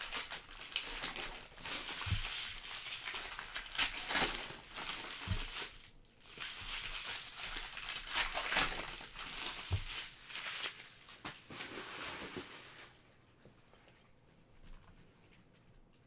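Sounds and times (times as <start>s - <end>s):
foil wrappers crinkling and tearing: 0.0s - 13.0s.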